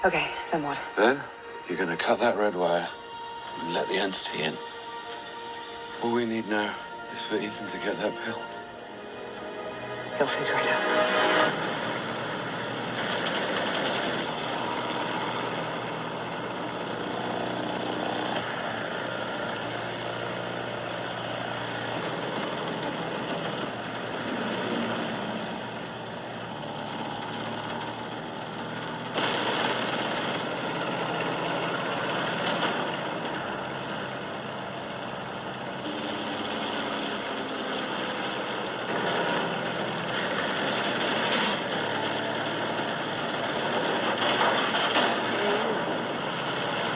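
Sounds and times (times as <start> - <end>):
propeller airplane engine running: 7.7 - 46.9.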